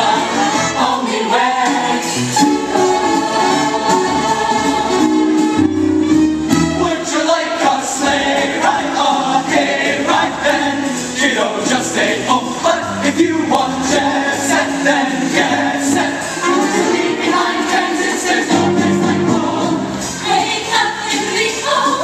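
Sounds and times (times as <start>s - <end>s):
mixed choir singing: 0.0s - 5.9s, 6.8s - 22.0s
backing music with steady beat: 0.0s - 22.0s.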